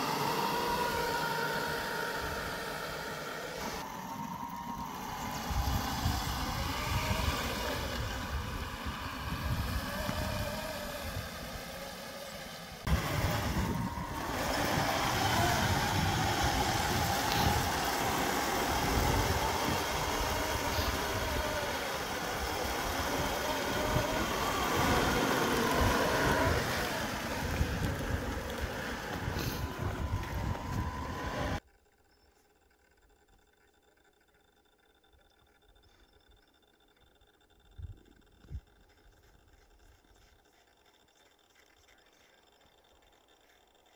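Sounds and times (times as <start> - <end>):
toy tank motors whining: 0.0 - 43.9.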